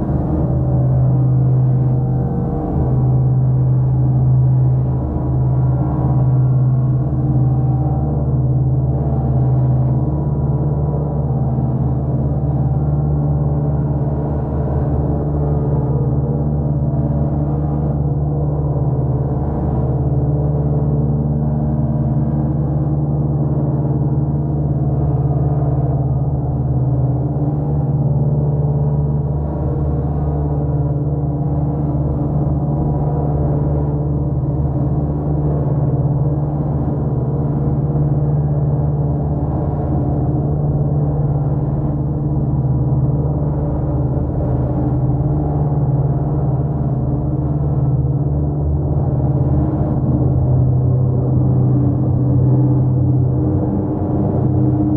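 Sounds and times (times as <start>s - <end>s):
synthesizer drone: 0.0s - 24.0s, 24.9s - 54.9s.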